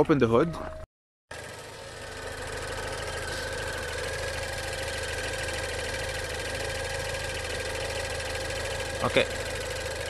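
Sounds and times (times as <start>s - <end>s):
car engine idling: 1.3s - 10.0s
light ticking in engine: 1.3s - 10.0s.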